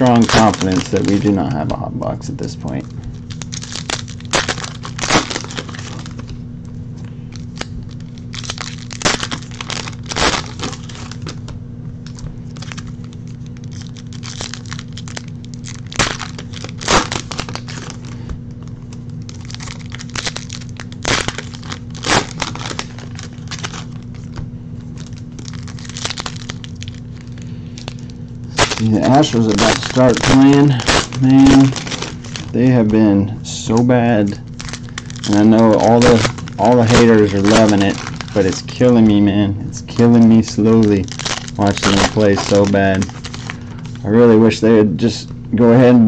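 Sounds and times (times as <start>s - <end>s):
foil wrappers crinkling and tearing: 0.0s - 6.4s, 7.2s - 44.6s
steady low hum: 0.0s - 46.0s.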